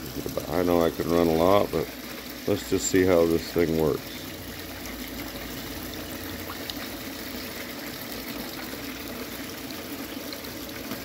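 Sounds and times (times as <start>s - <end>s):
hose water splashing down sluice: 0.0s - 11.0s.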